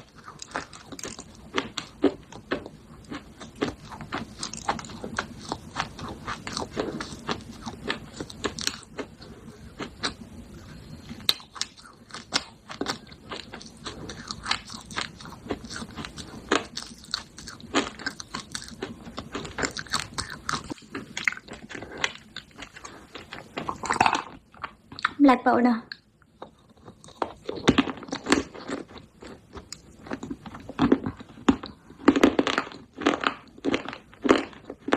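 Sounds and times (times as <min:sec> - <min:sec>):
crunching and chewing clay: 0:00.0 - 0:25.2, 0:25.9 - 0:34.9.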